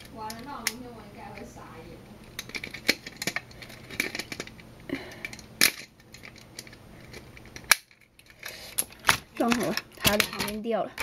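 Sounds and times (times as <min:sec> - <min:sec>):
plastic toy parts clicking: 0:00.3 - 0:01.5, 0:02.2 - 0:04.5, 0:05.1 - 0:11.0.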